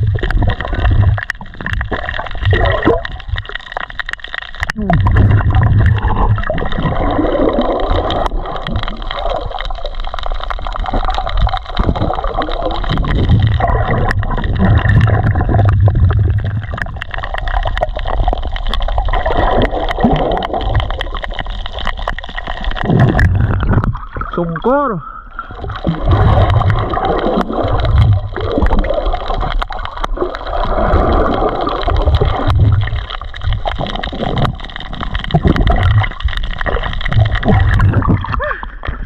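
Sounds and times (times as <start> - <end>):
muffled underwater gurgling: 0.0 - 39.0.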